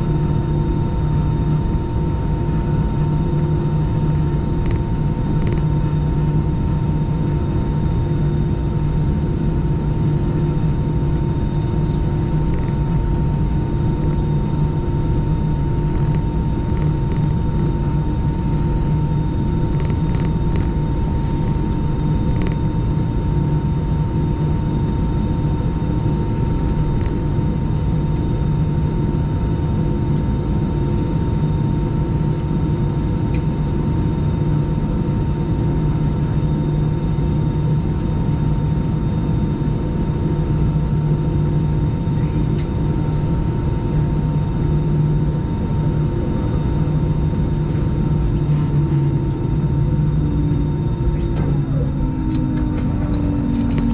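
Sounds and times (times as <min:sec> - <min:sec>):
jet engines idling rumble: 0:00.0 - 0:53.9.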